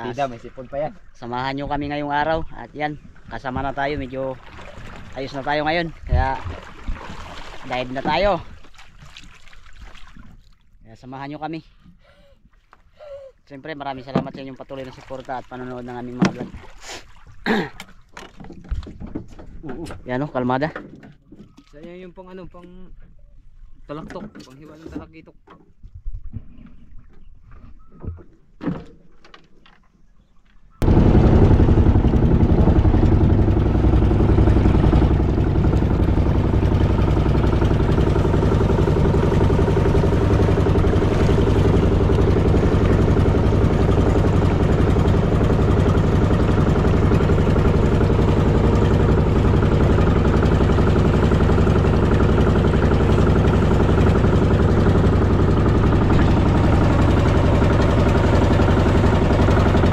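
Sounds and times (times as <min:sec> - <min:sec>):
motor boat engine running: 0:00.0 - 0:59.9.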